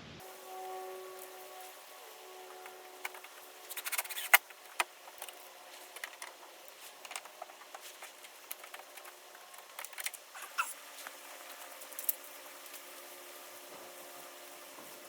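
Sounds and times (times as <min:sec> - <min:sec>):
small hard objects rattling: 0:01.1 - 0:15.0.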